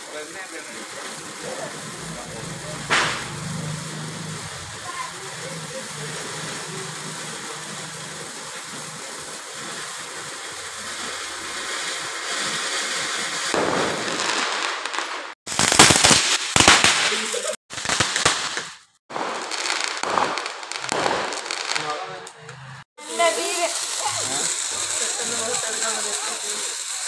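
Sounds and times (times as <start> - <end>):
firework fountain hissing: 0.0 - 27.0
fireworks crackling and popping: 0.0 - 27.0.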